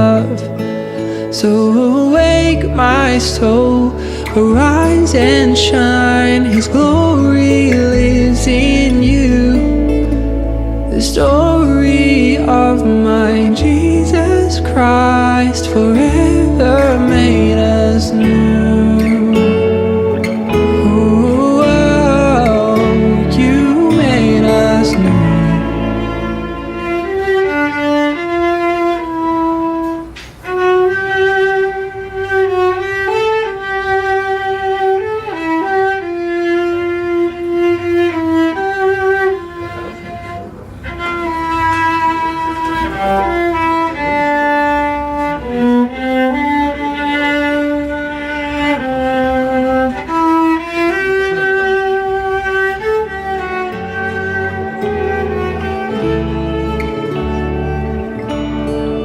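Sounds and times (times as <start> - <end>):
low musical accompaniment: 0.0 - 59.0
violin playing slow melody: 0.0 - 59.0.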